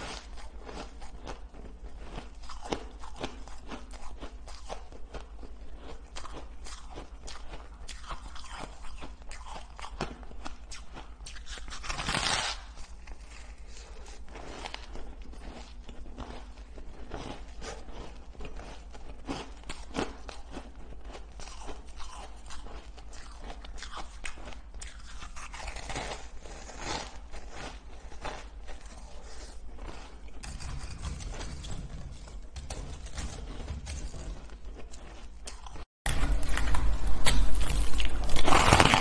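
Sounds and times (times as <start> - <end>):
ice being chewed: 0.0 - 39.0.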